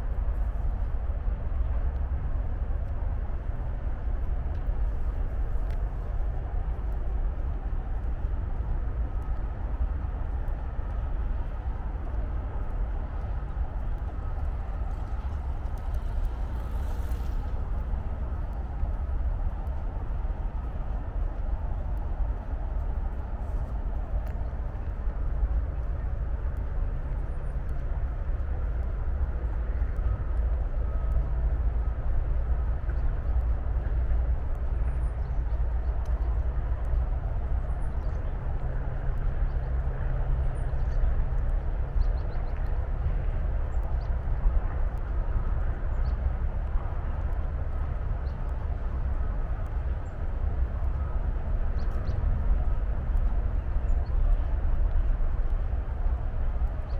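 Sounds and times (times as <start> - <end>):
distant traffic rumble: 0.0 - 56.9.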